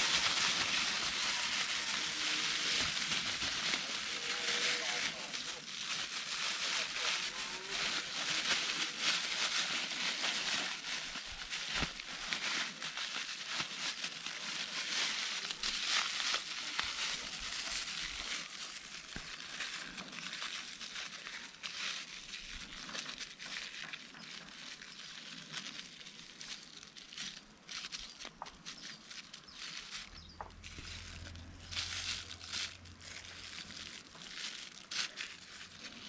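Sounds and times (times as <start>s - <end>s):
dense crinkling and rustling: 0.0s - 36.0s.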